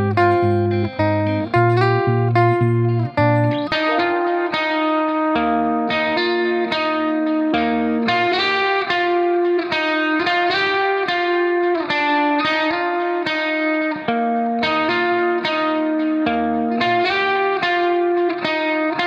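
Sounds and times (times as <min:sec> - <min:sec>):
plucked guitar music: 0:00.0 - 0:19.0.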